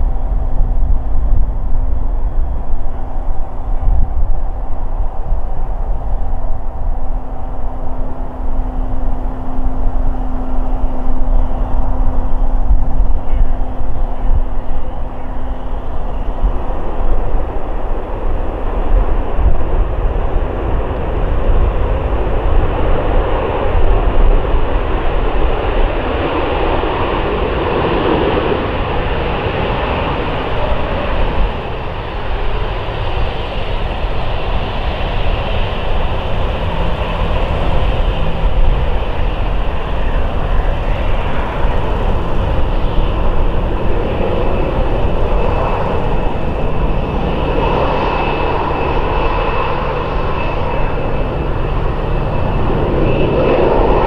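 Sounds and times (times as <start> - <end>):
broad rushing noise: 0.0 - 54.0
deep rumble: 0.0 - 54.0
jet engine whine: 0.0 - 54.0.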